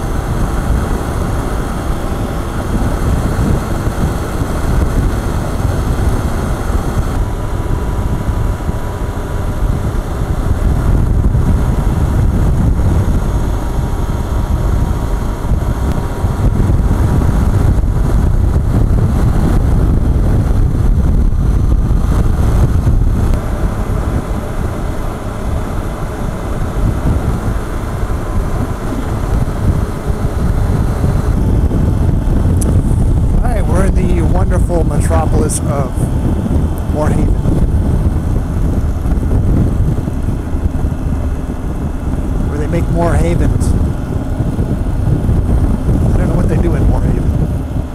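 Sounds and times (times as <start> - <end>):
motorcycle engine and tyres droning: 0.0 - 47.9
wind rushing over microphone: 0.0 - 47.9.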